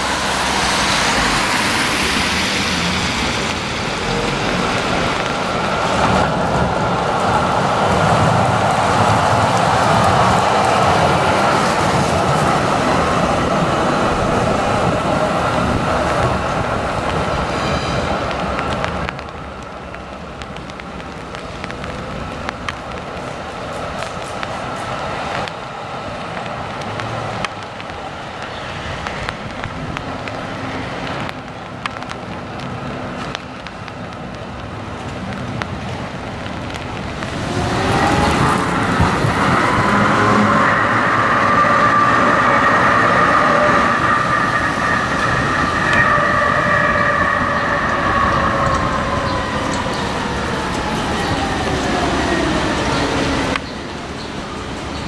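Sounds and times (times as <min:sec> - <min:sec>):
rolling street noise: 0:00.0 - 0:55.0
tram passing with loud whine: 0:00.0 - 0:55.0.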